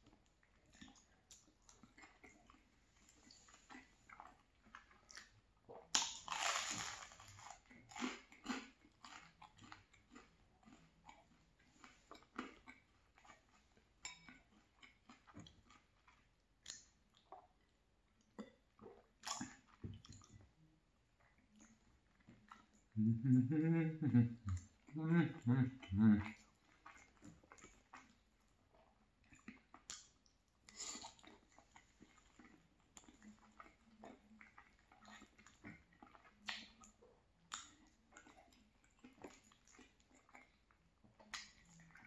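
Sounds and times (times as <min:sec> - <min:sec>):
wet chewing smacks and clicks: 0:00.0 - 0:20.6, 0:25.8 - 0:42.0.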